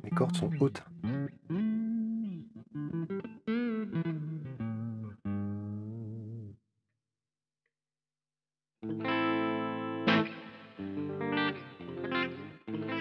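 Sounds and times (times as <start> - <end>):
electric guitar notes: 0.0 - 6.5, 8.8 - 13.0.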